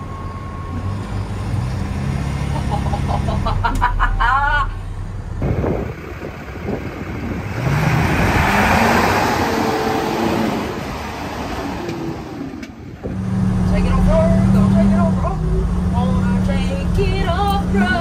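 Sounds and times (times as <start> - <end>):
truck driving by: 0.0 - 18.0.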